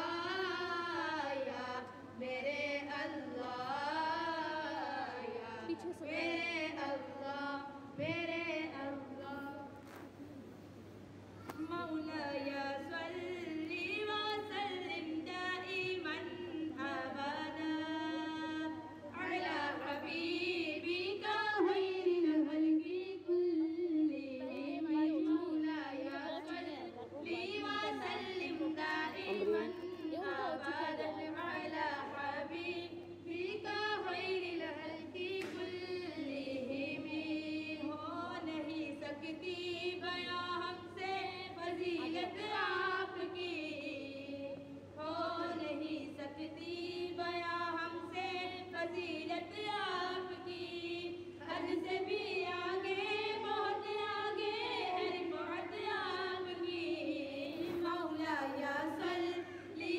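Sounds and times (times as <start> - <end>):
women singing unaccompanied: 0.0 - 9.8, 11.6 - 59.9.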